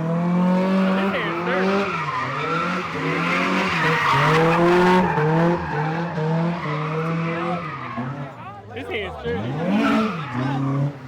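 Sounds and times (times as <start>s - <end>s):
car engine revving high: 0.0s - 8.4s, 9.0s - 11.0s
tyres squealing and skidding: 0.4s - 11.0s.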